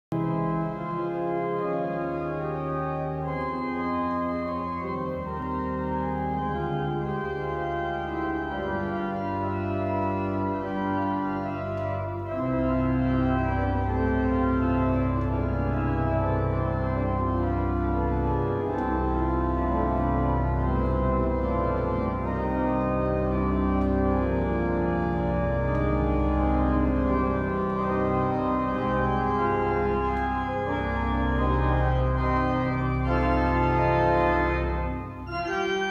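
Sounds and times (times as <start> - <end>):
deep organ pedal bass notes: 0.1 - 35.9
pipe organ playing chords: 0.1 - 35.9.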